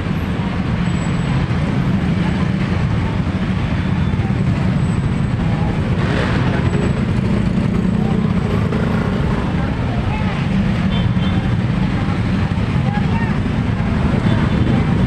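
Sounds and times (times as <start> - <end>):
city traffic rumble: 0.0 - 15.0
crowd murmur: 0.0 - 15.0.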